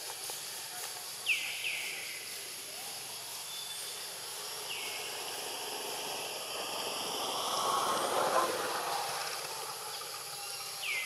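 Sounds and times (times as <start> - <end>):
insects humming: 0.0 - 11.0.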